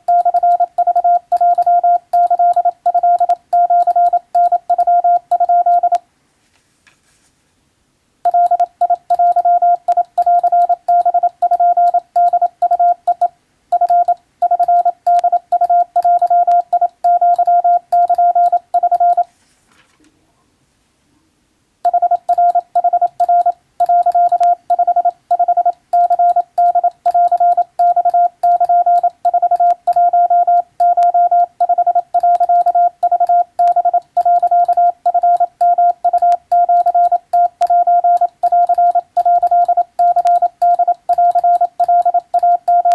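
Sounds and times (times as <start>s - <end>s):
morse code beeps: 0.0s - 6.0s, 8.3s - 19.3s, 21.9s - 42.9s.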